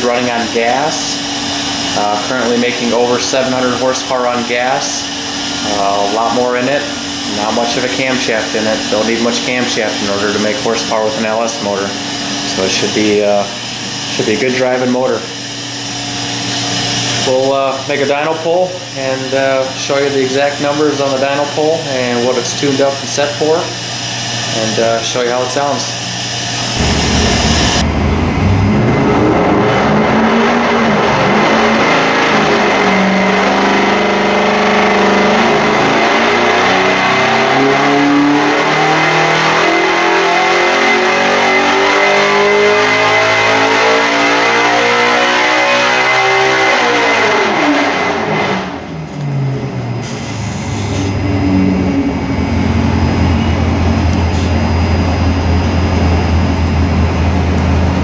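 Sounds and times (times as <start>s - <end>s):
race engine revving and idling: 0.0s - 23.8s, 26.5s - 58.0s.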